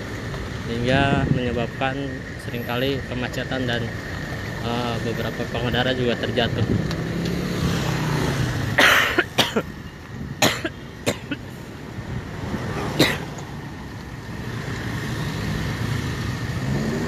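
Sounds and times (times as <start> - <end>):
car and motorcycle engines passing: 0.0 - 8.8, 11.6 - 17.0.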